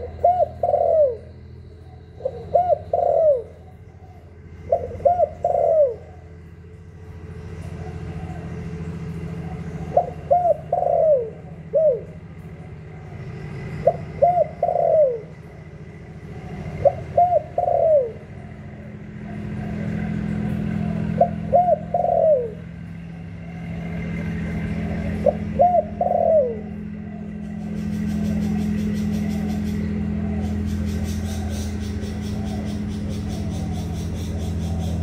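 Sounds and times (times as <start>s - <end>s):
dove cooing: 0.0s - 6.5s, 7.5s - 35.0s
low drone: 0.0s - 35.0s.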